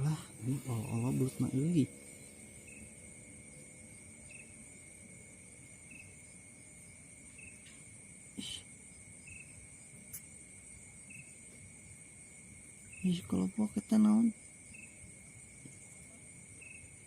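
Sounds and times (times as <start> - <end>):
cricket trill: 0.0 - 17.0
short insect chirp: 0.0 - 17.0.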